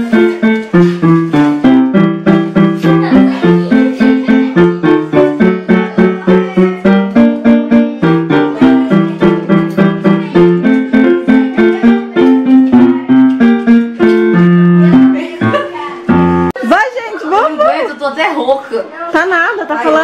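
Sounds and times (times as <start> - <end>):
digital piano notes and chords: 0.0 - 16.6.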